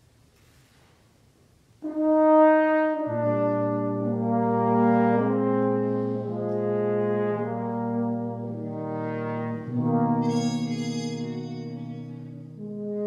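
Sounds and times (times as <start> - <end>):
brass quintet playing chords: 1.8 - 13.0.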